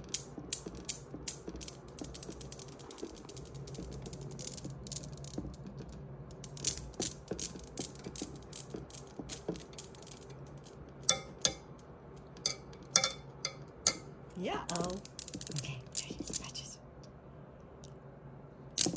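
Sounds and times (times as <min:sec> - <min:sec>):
newton's cradle balls clicking: 0:00.0 - 0:16.6.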